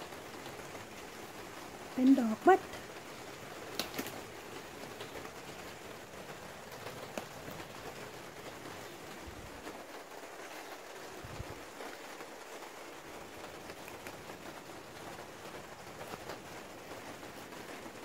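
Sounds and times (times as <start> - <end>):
rain on plastic sheeting: 0.0 - 18.0.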